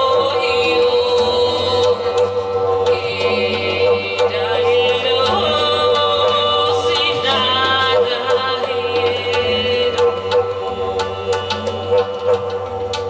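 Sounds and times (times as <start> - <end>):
hand drum strokes: 0.0 - 13.0
low drone: 0.0 - 13.0
woman singing: 0.0 - 13.0.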